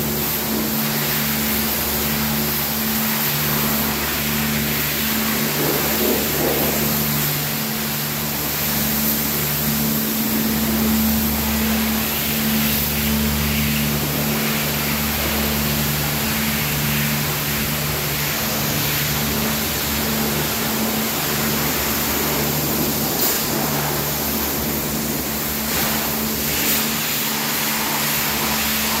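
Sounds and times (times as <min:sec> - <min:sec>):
machinery low mechanical hum: 0:00.0 - 0:29.0.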